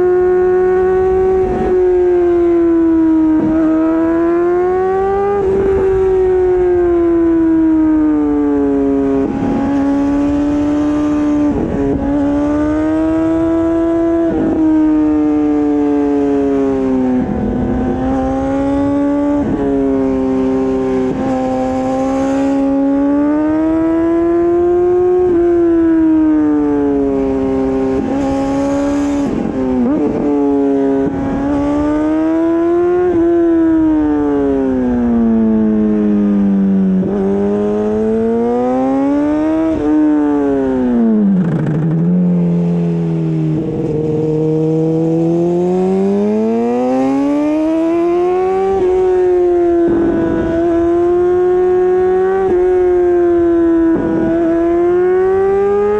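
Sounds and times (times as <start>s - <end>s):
motorcycle engine revving high: 0.0s - 55.9s.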